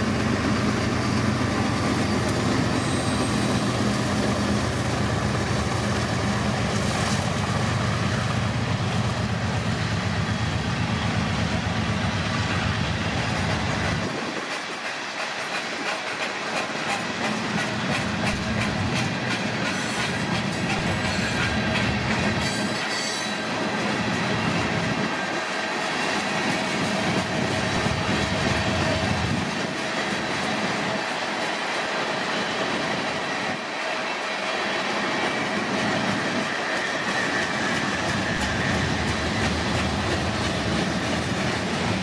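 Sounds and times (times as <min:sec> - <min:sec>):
diesel locomotive engine drone: 0:00.0 - 0:42.0.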